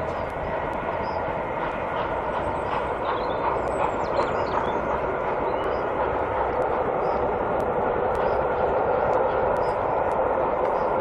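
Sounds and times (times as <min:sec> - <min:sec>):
distant train coaches rumbling: 0:00.0 - 0:11.0.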